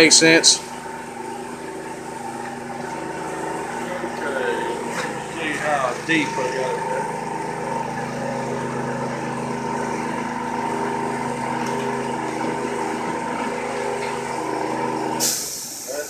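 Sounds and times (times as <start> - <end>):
high machine tone: 0.0 - 16.0
milling machine motor hum: 0.0 - 16.0.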